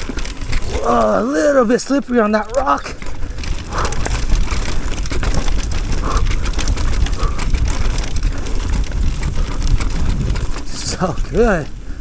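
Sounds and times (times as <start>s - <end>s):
bike rattling and knocking: 0.0s - 12.0s
tyres running over dirt and rock: 0.0s - 12.0s
wind rumbling on microphone: 0.0s - 12.0s.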